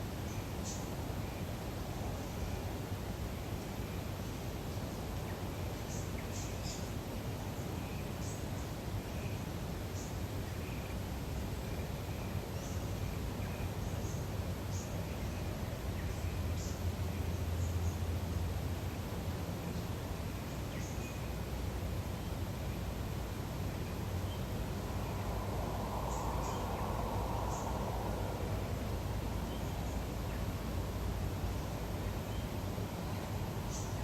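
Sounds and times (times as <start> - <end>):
low rumble and hiss: 0.0 - 34.0.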